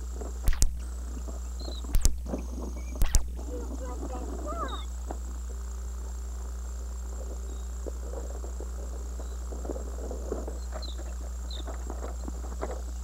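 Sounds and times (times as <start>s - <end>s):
faint crackles: 0.0s - 13.0s
high insect trill: 0.0s - 13.0s
low hum: 0.0s - 13.0s.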